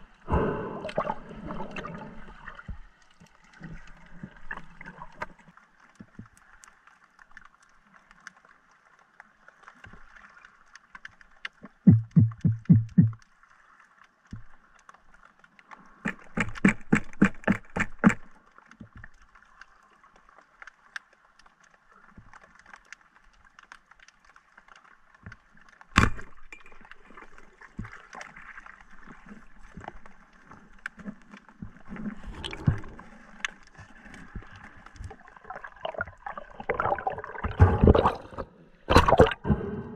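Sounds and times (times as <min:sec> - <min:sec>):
rough water noise: 0:00.0 - 0:39.9.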